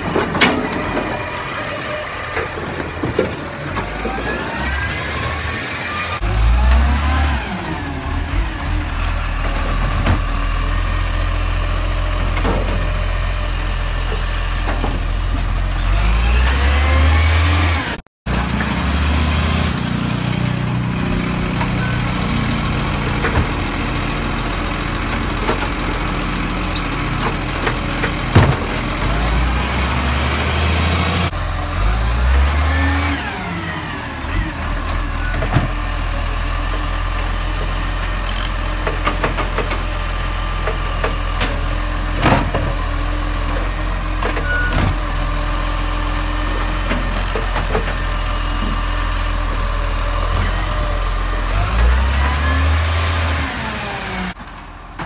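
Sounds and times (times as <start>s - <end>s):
garbage truck diesel engine revving: 0.0s - 12.0s, 15.4s - 54.4s.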